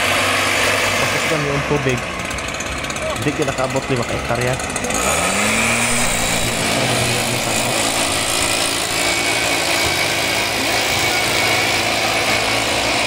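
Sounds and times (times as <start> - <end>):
two-stroke engine running: 0.0 - 13.0.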